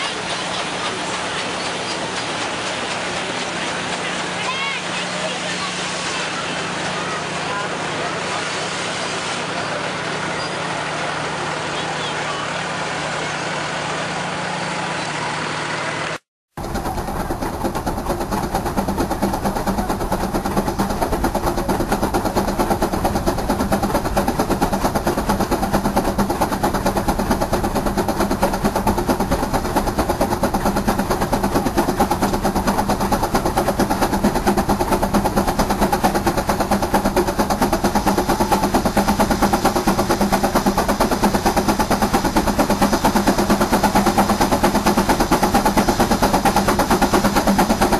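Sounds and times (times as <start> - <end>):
machine running with fast beat: 0.0 - 8.4, 16.6 - 47.9
engine running: 0.0 - 47.9.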